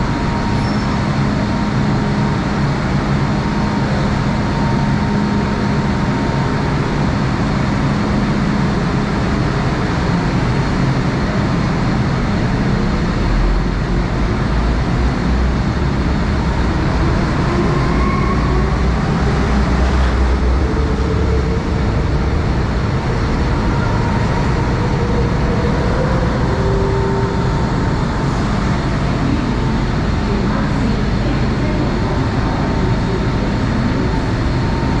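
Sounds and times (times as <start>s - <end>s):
train rail rumble: 0.0s - 35.0s.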